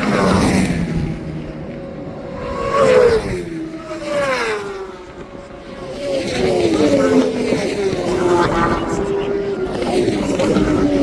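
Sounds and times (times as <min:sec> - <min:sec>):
racing motorcycles passing: 0:00.0 - 0:11.0.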